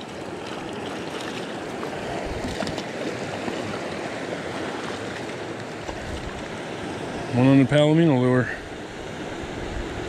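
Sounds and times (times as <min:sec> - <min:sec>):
stream water rushing: 0:00.0 - 0:10.0.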